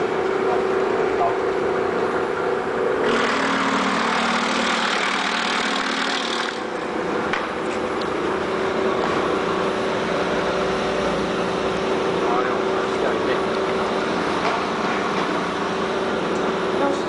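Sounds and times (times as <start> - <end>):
cutting machine motor hum: 3.0 - 17.0.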